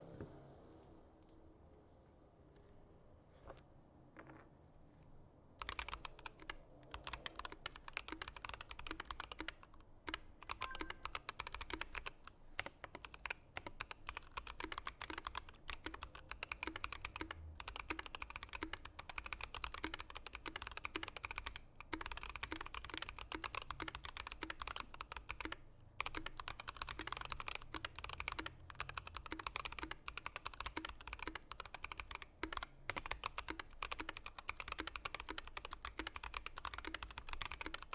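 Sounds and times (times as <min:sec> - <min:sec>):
mechanical keyboard key clacks: 0:05.6 - 0:37.9.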